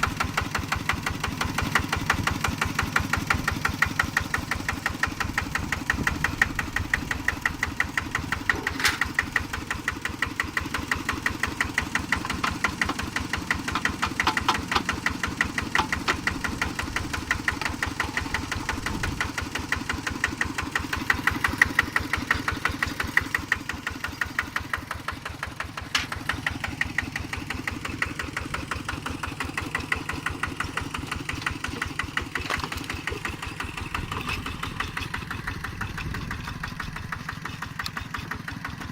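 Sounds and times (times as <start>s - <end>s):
engine running with rapid pulse: 0.0s - 38.9s.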